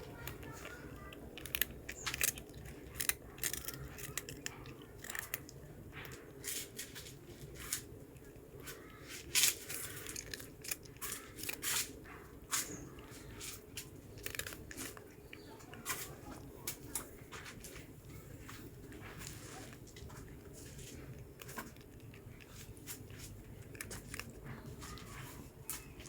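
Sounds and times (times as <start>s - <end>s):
cat crunching snack: 0.0s - 26.0s.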